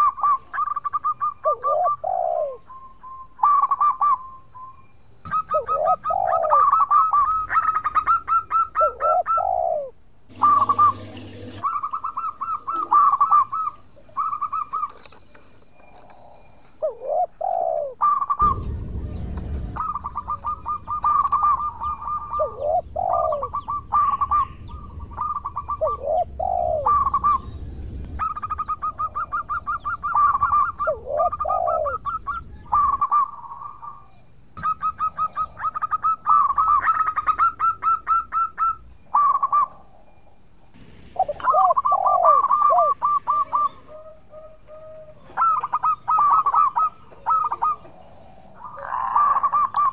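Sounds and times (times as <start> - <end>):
dove cooing: 0.0 - 15.2, 15.8 - 40.0, 41.2 - 49.9.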